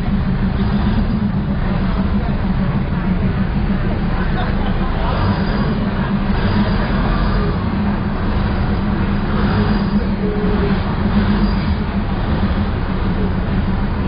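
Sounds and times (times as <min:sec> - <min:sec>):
diesel train engine drone: 0:00.0 - 0:14.0
train wheels rumbling: 0:00.0 - 0:14.0.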